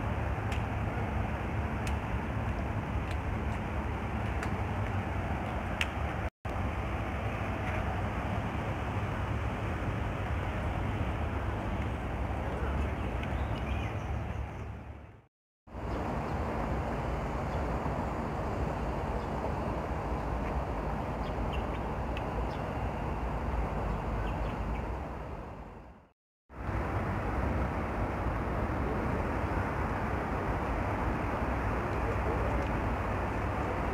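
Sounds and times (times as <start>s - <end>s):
steady traffic noise: 0.0s - 33.9s.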